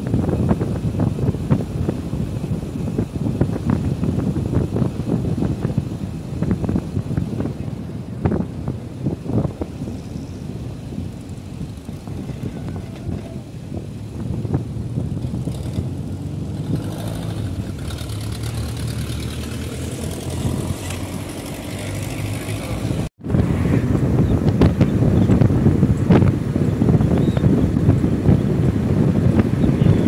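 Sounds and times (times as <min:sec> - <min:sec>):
car engine and tyre rumble: 0:00.0 - 0:30.0
wind on microphone: 0:00.0 - 0:30.0.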